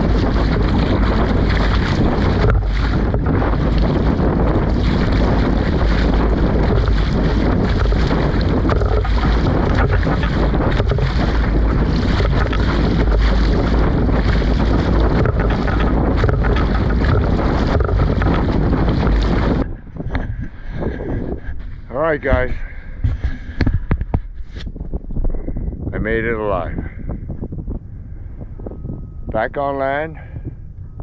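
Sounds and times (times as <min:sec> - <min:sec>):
choppy water: 0:00.0 - 0:31.0
strong wind buffeting microphone: 0:00.0 - 0:31.0.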